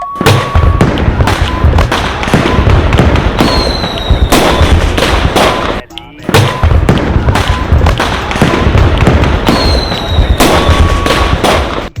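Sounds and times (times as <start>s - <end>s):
fireworks bangs and crackles: 0.0s - 12.0s
fireworks whistling: 0.0s - 12.0s
low booms: 0.2s - 12.0s.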